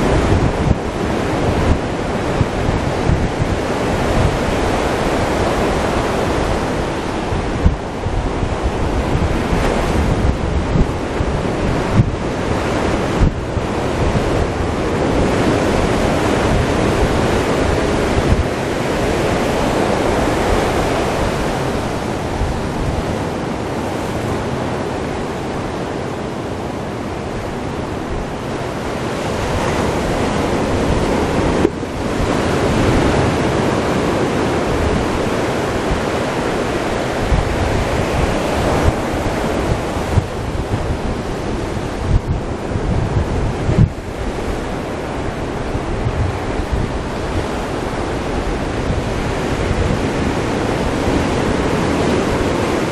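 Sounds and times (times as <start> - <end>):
waves breaking on beach: 0.0 - 52.9
wind buffeting microphone: 0.0 - 52.9.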